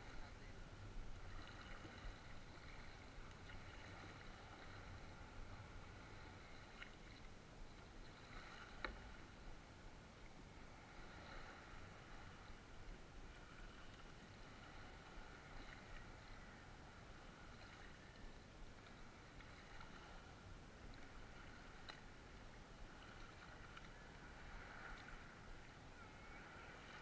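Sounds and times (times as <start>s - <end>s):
paddle stroking water: 0.0s - 27.0s.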